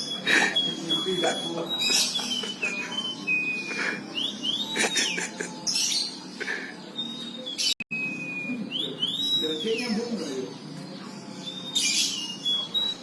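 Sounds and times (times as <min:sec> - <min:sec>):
canary singing: 0:00.0 - 0:13.0.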